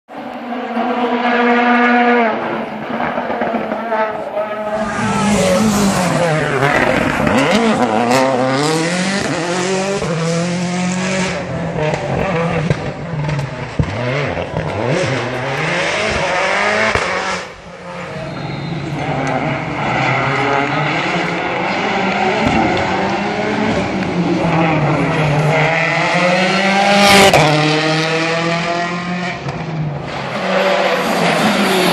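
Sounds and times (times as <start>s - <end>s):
rally car engines revving: 0.1s - 31.9s.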